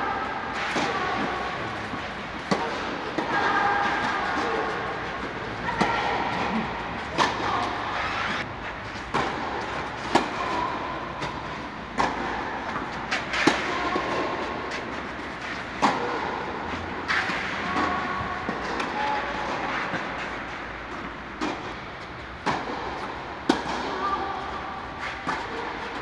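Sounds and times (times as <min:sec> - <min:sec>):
tennis ball hit by rackets: 0:00.2 - 0:08.3, 0:09.0 - 0:26.0.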